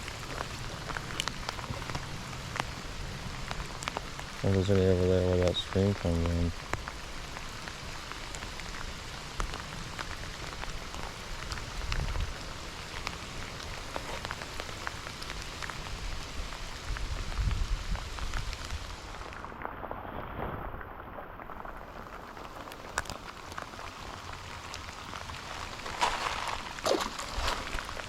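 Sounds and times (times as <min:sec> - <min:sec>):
rain patter: 0:00.0 - 0:28.0.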